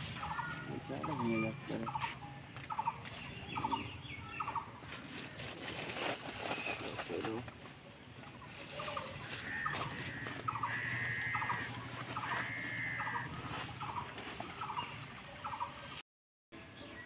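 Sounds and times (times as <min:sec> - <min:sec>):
high drawn-out bird calls: 0:00.0 - 0:07.2, 0:08.4 - 0:16.0.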